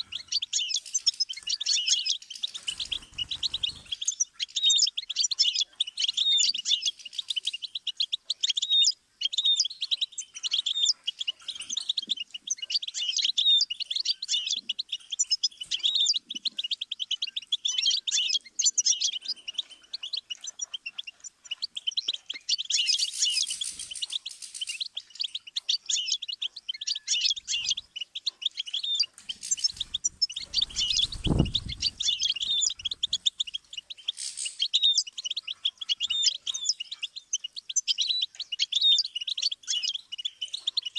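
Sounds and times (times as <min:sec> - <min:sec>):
goldfinch singing: 0:00.0 - 0:40.9.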